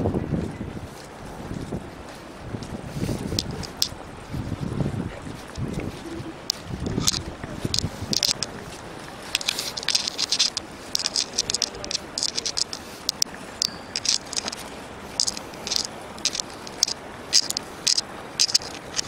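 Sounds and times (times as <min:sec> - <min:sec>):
footsteps on pavement: 0:00.3 - 0:19.0
faint background hiss: 0:02.0 - 0:19.0.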